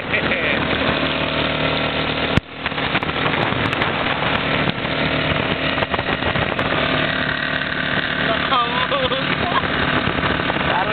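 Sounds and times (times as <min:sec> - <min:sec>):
quad bike engine running: 0:00.0 - 0:10.9.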